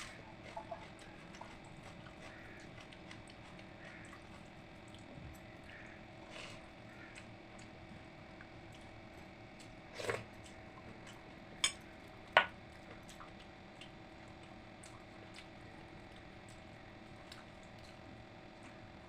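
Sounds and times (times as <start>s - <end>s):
wet chewing: 0.0s - 18.8s.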